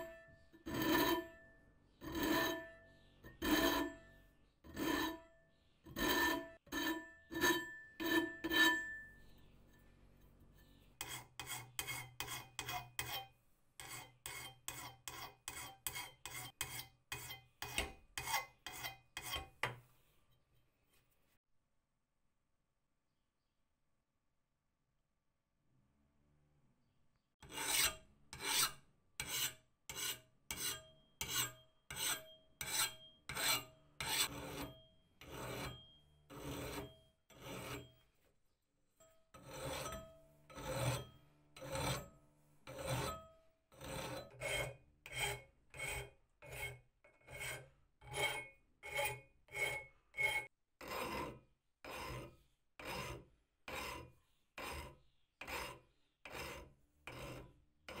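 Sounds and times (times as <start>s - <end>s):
file rasping on steel: 0.0s - 5.3s, 5.9s - 9.1s, 10.6s - 19.8s, 27.4s - 38.0s, 39.3s - 58.0s.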